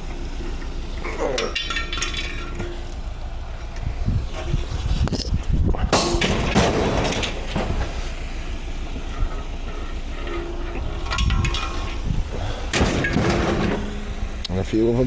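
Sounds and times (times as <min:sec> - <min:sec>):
scrap metal clanking: 0:00.0 - 0:15.0
steady low rumble: 0:00.0 - 0:15.0.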